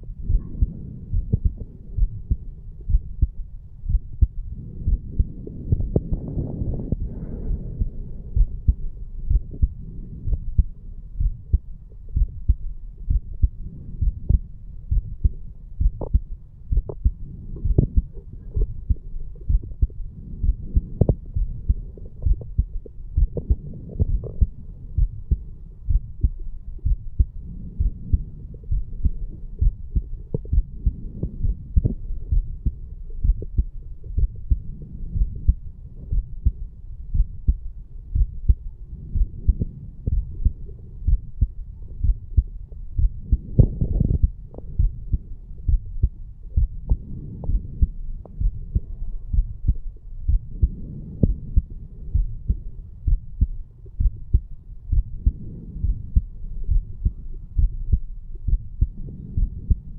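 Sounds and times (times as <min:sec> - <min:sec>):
heartbeat lub-dub thumps: 0:00.0 - 0:59.9.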